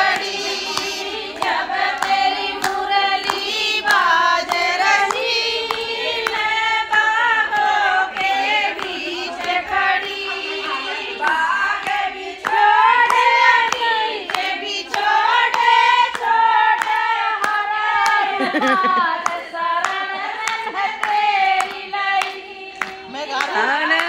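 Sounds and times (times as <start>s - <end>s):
steady hand clapping: 0.0s - 24.0s
women singing devotional song: 0.0s - 24.0s.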